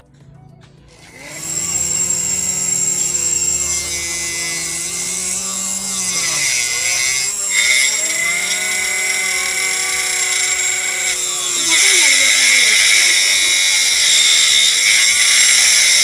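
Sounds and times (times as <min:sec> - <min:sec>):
small motor whining: 0:00.9 - 0:16.0.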